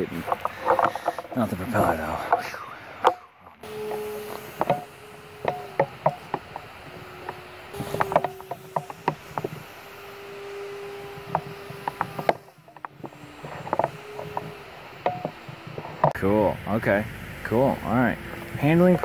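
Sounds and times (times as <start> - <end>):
model airplane motor buzzing: 0.0 - 19.0.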